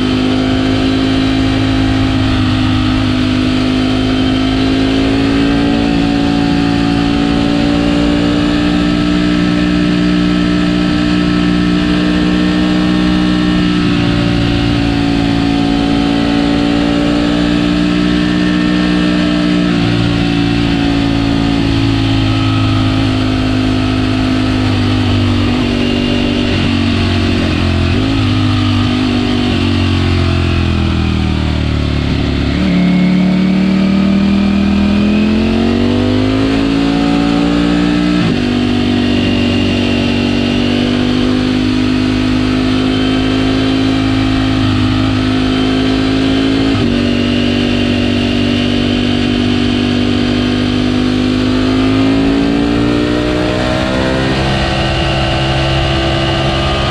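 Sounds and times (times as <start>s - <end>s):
motorcycle engine: 0.0s - 56.9s.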